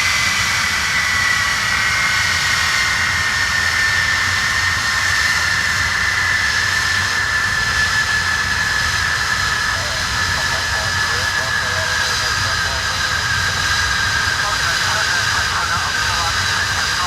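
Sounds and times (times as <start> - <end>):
jet engines whining and roaring: 0.0 - 17.0.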